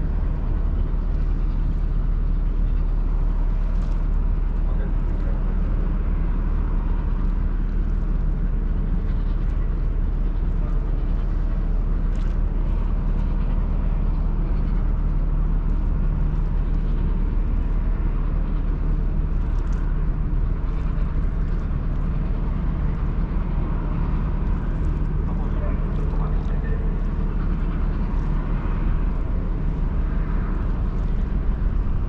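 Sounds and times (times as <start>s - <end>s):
ship engine drone: 0.0s - 32.0s.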